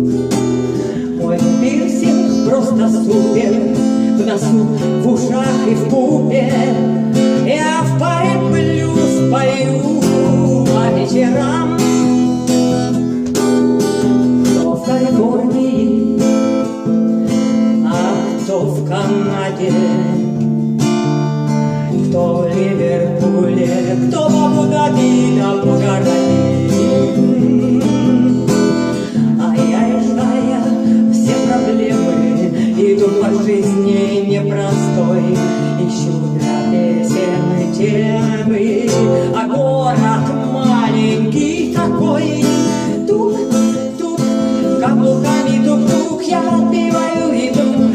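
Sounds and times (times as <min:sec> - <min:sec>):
acoustic guitar strumming song: 0:00.0 - 0:47.9.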